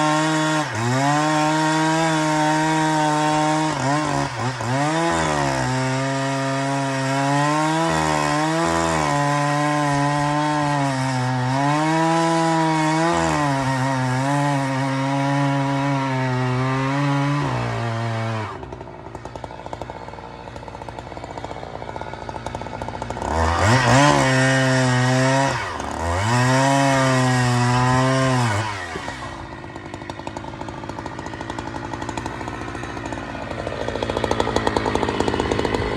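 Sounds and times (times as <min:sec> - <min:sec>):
chainsaw revving and idling: 0:00.0 - 0:35.9.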